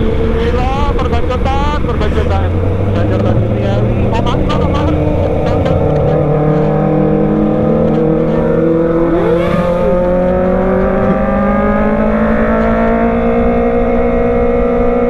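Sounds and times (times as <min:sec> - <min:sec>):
motorcycle engine revving high: 0:00.0 - 0:15.0
rising and falling whine: 0:00.0 - 0:15.0.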